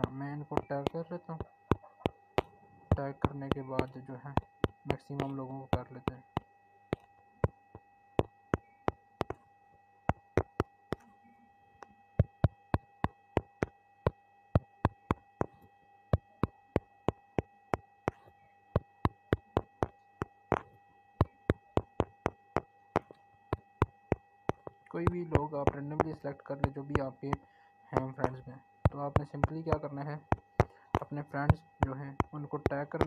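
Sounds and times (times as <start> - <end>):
tapping smartphone touchscreen: 0.0 - 9.4, 10.1 - 11.2, 11.8 - 27.4, 28.0 - 33.0
faint electrical whine: 0.0 - 33.0.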